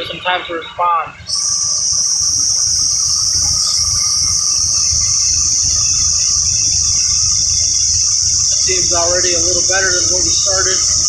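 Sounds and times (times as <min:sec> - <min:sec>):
insects droning: 0:00.0 - 0:11.0
car engine idling: 0:01.3 - 0:11.0.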